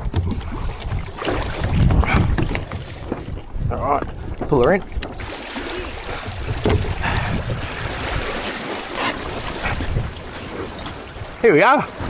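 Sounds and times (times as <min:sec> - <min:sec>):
water washing along hulls: 0:00.0 - 0:12.0
wind buffeting microphone: 0:00.0 - 0:12.0.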